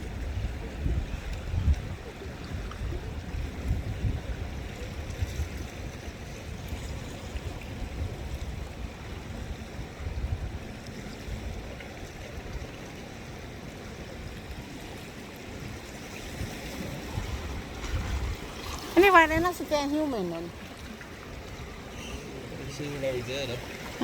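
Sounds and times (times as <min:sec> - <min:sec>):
wind on microphone: 0:00.0 - 0:12.8, 0:13.9 - 0:22.8
seawater lapping on shore: 0:00.0 - 0:24.0.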